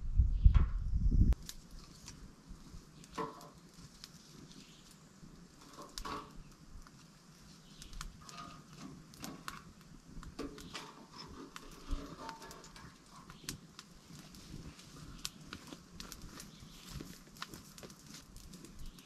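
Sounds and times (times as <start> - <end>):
fire snaps and pops: 0.4 - 19.0
wood fire crackling: 1.3 - 19.0.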